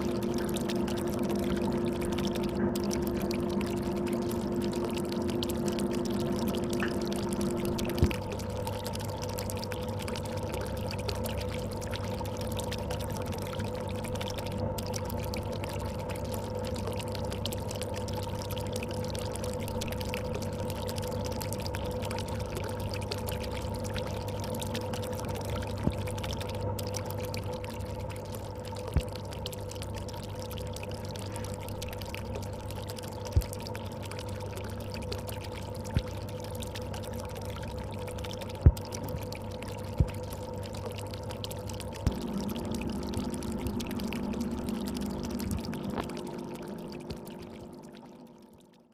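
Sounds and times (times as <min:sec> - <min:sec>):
pump motor hum: 0:00.0 - 0:48.9
water pouring and bubbling: 0:00.0 - 0:48.9.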